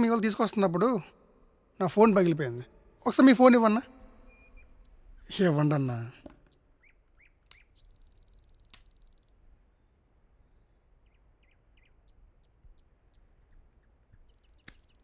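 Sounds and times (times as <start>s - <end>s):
faint chirps and ticks: 0.0s - 15.0s.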